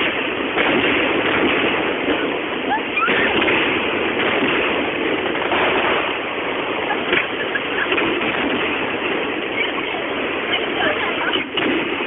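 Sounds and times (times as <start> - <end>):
fireworks bangs: 0.0 - 12.0
steady rushing noise: 0.0 - 12.0.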